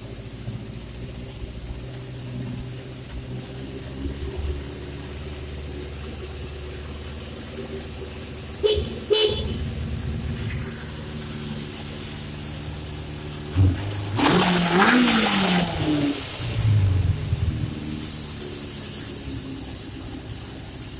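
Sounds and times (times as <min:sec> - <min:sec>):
motorcycle engine idling and revving: 0:00.0 - 0:20.9.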